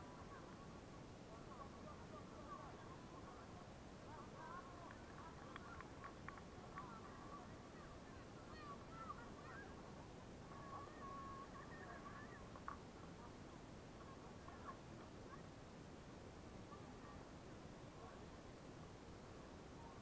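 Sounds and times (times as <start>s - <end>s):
low outdoor hiss: 0.0s - 20.0s.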